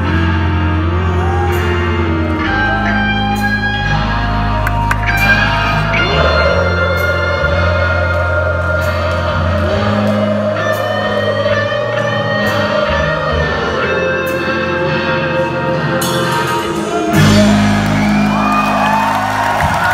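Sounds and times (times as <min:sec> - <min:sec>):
bass guitar: 0:00.0 - 0:19.9
distorted electric guitars: 0:00.0 - 0:19.9
rock band playing: 0:00.0 - 0:19.9.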